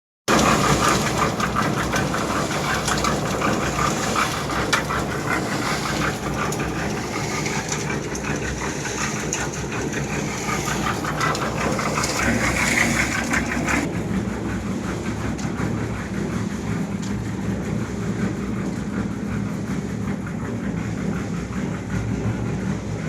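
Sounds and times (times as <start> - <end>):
engine running: 0.3 - 23.0.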